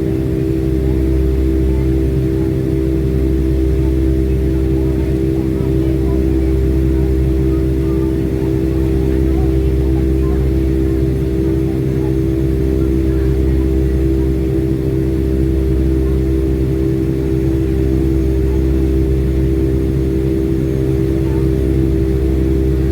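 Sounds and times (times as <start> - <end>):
jet engine drone in cabin: 0.0 - 22.9.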